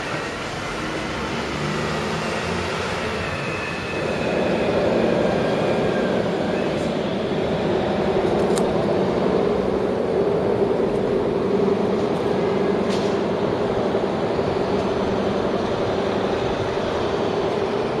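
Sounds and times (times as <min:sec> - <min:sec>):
steady mechanical drone: 0:00.0 - 0:18.0.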